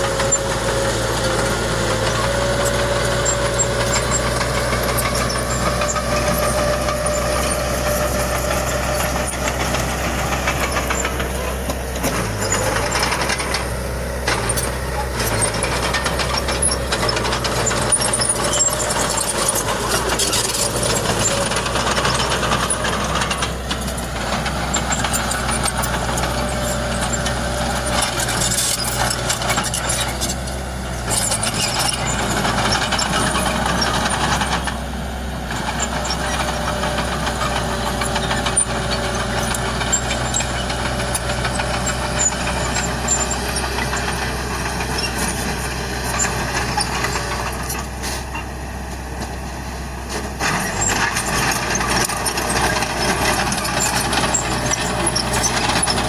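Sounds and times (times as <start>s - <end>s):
rattling grinding noise: 0.0s - 34.8s, 35.5s - 48.0s, 50.4s - 56.0s
diesel machinery engine hum: 0.0s - 56.0s.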